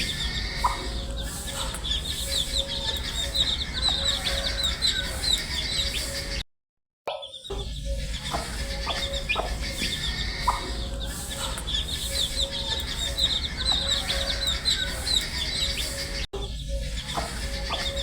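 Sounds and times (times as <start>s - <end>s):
baby chicks peeping: 0.0s - 6.4s, 7.2s - 18.0s.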